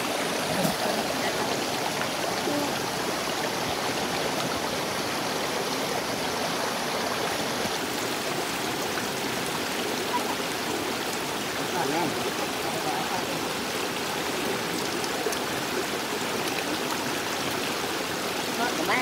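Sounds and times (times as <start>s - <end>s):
stream splashing over stones: 0.0s - 19.0s.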